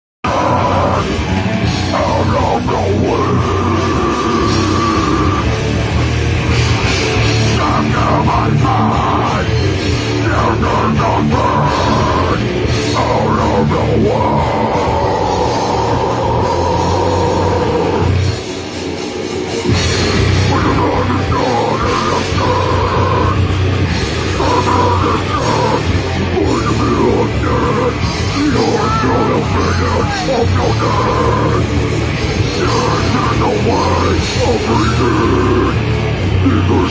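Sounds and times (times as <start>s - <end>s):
grindcore band playing live: 0.2s - 36.9s.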